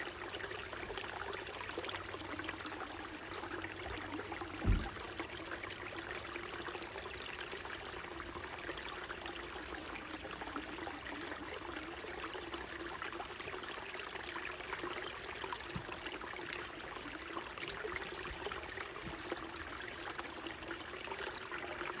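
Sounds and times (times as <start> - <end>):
stream flowing over rocks: 0.0 - 22.0.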